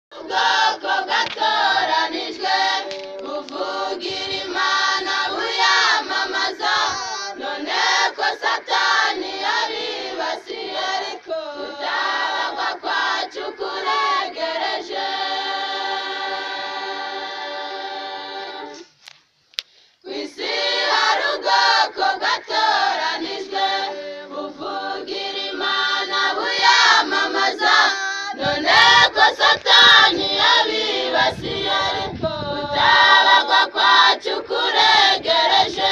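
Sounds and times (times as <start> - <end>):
choir singing: 0.1 - 19.0, 20.0 - 35.9.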